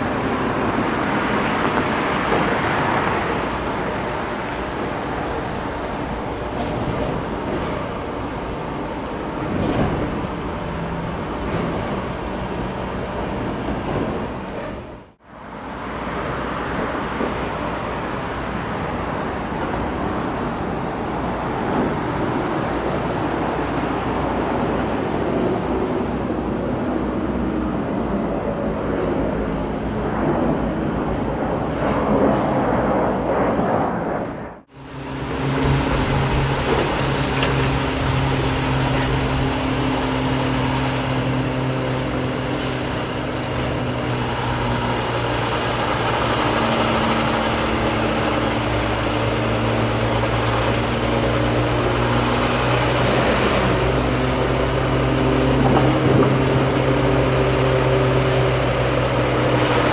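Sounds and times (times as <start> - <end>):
heavy diesel engine drone: 0.0 - 33.9, 34.5 - 59.9
road traffic: 0.0 - 59.9
train rumble: 0.0 - 59.9.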